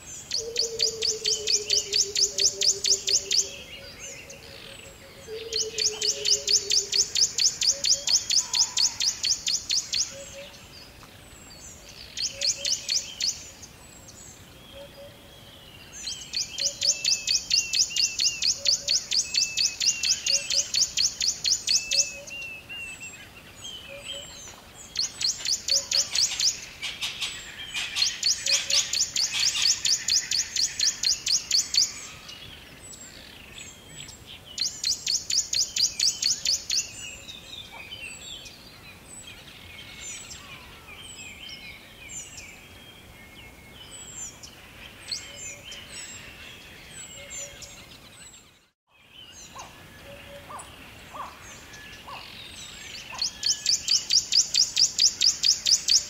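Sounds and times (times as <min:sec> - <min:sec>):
birds chirping and whistling: 0:00.0 - 0:10.7, 0:11.5 - 0:56.0.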